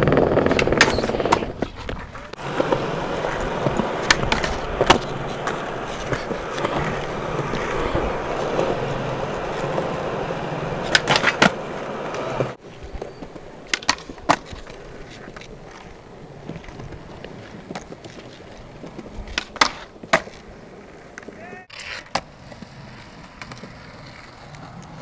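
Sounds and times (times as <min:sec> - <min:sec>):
skateboard clacking on ground: 0:00.0 - 0:25.0
skateboard wheels rolling on concrete: 0:00.0 - 0:25.0.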